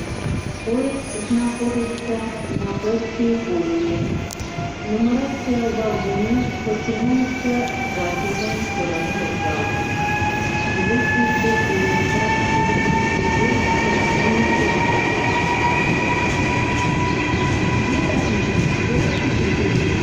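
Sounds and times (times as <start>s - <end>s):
electric train drive whining: 0.0s - 20.0s
wheels rumbling on track: 0.0s - 20.0s.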